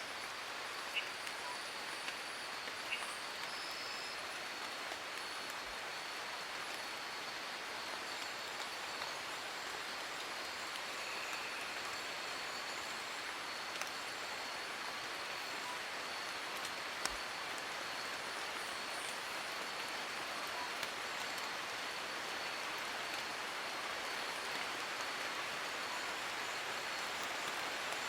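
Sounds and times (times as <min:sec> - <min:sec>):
rain falling on leaves: 0:00.0 - 0:28.0.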